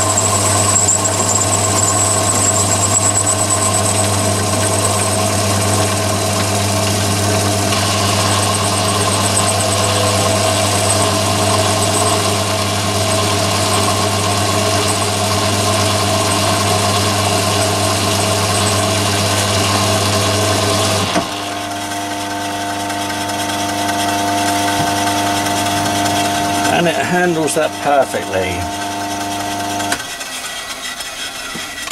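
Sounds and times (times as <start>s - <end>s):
lathe boring steel: 0.0s - 31.9s
lathe motor hum: 0.0s - 31.9s.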